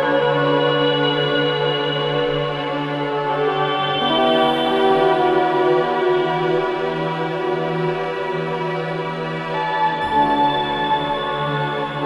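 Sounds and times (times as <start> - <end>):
slow calm ambient music: 0.0 - 12.0.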